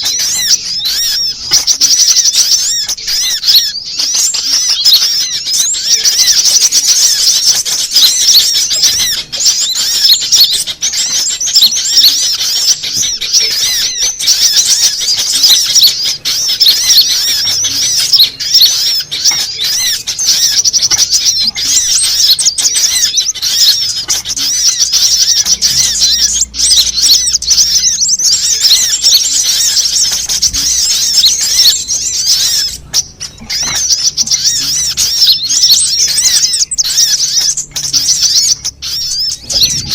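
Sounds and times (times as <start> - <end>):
sunbirds twittering chirps: 0.0 - 39.9.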